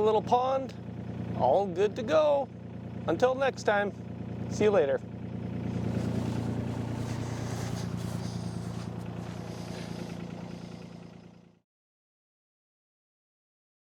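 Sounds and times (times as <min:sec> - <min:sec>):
diesel engine idling: 0:00.0 - 0:11.6.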